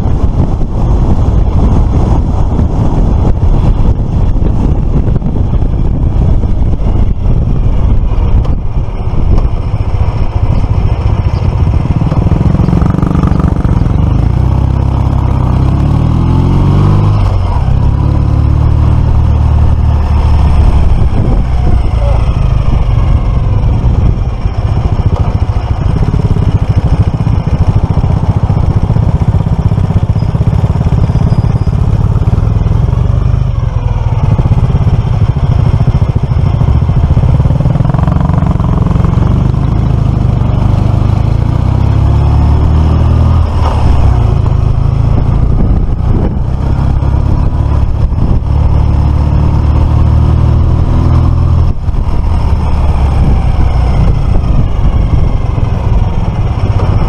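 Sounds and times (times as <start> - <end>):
heavy low rumble: 0.0 - 57.0.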